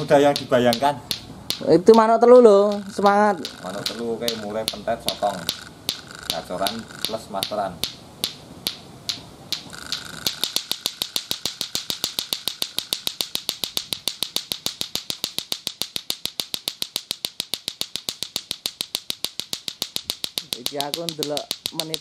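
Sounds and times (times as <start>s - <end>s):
plastic clacker balls clacking: 0.0s - 22.0s.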